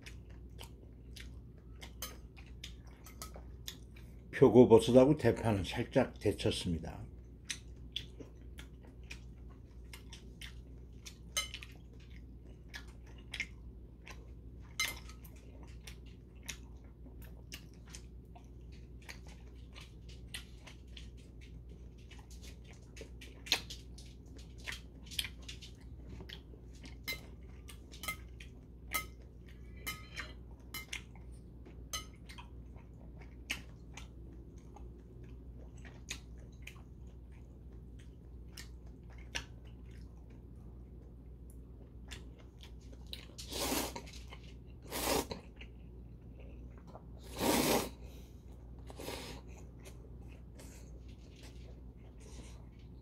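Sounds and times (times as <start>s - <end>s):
close-up chewing of noodles: 0.0s - 4.3s, 7.1s - 53.0s.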